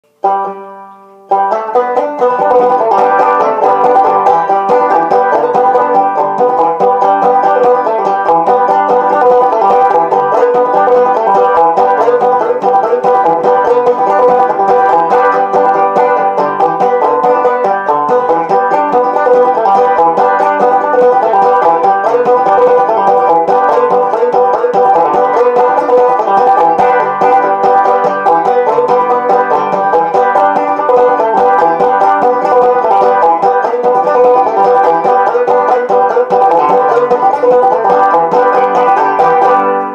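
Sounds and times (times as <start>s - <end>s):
banjo playing: 0.0s - 39.9s.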